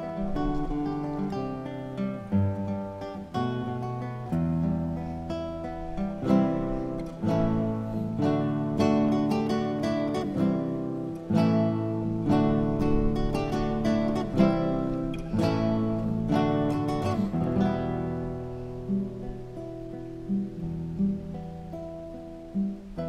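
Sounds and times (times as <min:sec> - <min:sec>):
solo acoustic guitar playing: 0:00.0 - 0:23.0.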